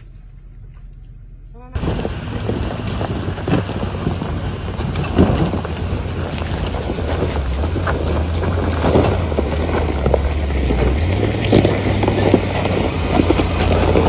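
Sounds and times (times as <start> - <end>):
vehicle engine running low: 0.0 - 14.0
rocks knocking: 1.8 - 14.0
tyres crunching over stones: 1.8 - 14.0
wind over microphone: 1.8 - 14.0.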